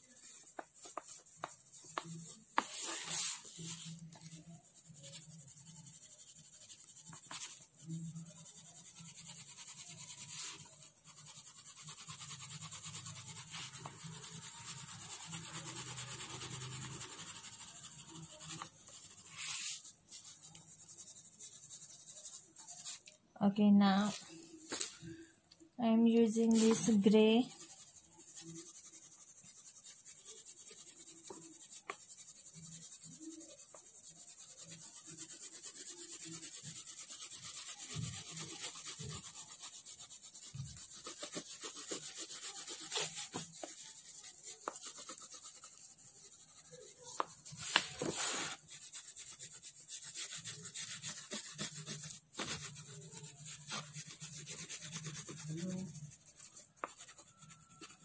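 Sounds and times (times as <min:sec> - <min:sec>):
pastel rubbing on paper: 0:00.0 - 0:23.1, 0:26.2 - 0:58.0.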